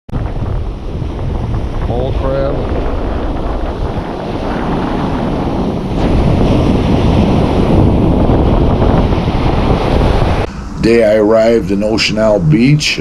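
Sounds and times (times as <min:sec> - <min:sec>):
wind buffeting microphone: 0:00.1 - 0:13.0
ocean surf rushing: 0:00.2 - 0:13.0.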